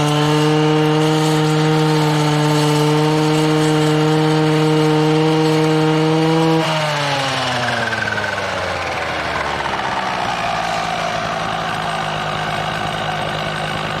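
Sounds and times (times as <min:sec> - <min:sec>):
brushcutter engine revving: 0:00.0 - 0:14.0.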